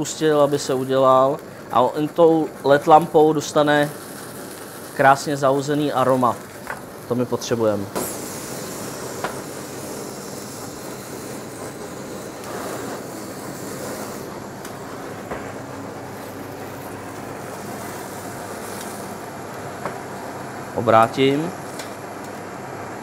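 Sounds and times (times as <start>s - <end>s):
blowtorch flame rushing: 0.0s - 23.0s.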